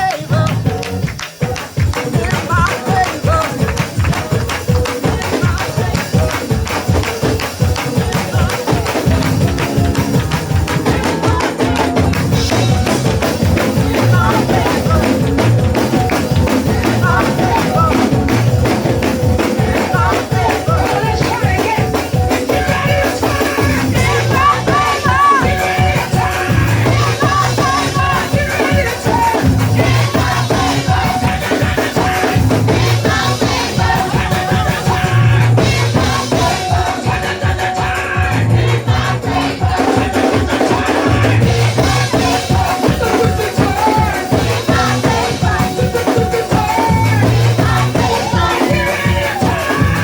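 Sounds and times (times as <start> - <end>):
drums: 0.0 - 50.0
fast tambourine: 0.0 - 50.0
singing: 0.0 - 50.0
up-tempo praise music: 0.0 - 50.0.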